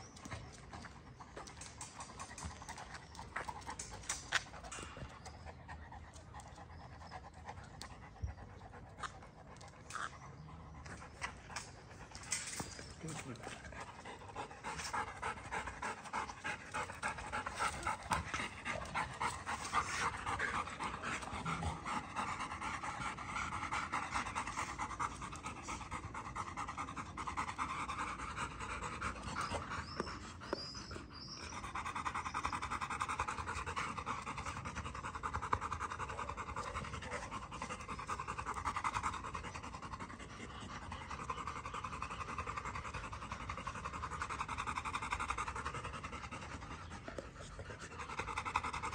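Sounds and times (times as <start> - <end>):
dogs panting: 0.0 - 48.9.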